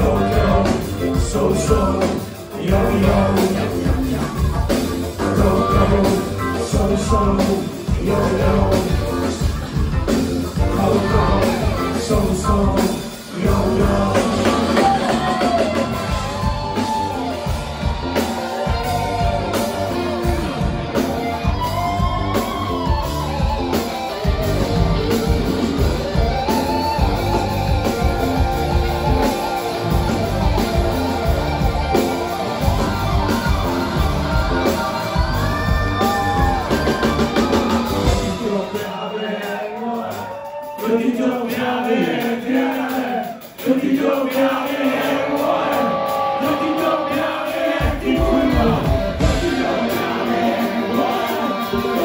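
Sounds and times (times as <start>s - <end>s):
person singing: 0.0s - 9.8s, 10.6s - 24.4s, 26.0s - 52.0s
funk rock band playing: 0.0s - 52.0s.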